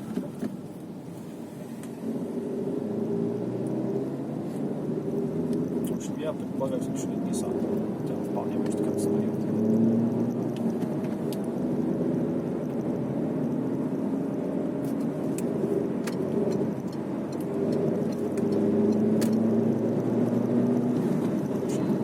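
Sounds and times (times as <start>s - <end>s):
car engine hum and road noise: 0.0s - 22.0s.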